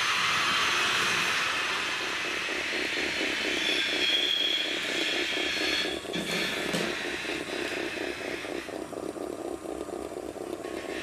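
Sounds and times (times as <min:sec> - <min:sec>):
fast even pulsing: 0:00.0 - 0:11.0
small electric motors whirring: 0:00.0 - 0:11.0.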